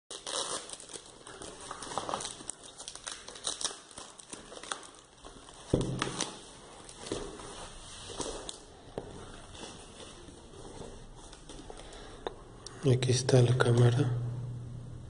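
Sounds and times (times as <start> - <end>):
plastic and foam crinkling: 0.1 - 12.2.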